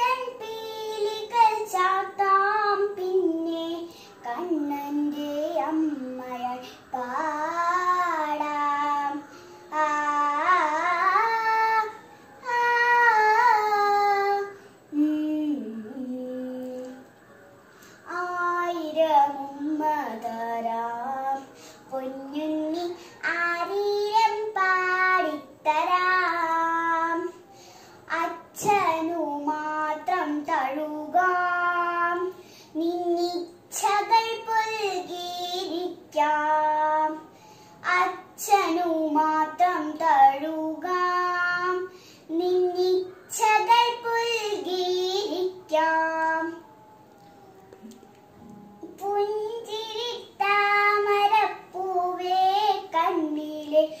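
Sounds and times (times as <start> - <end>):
girl singing: 0.0 - 54.0.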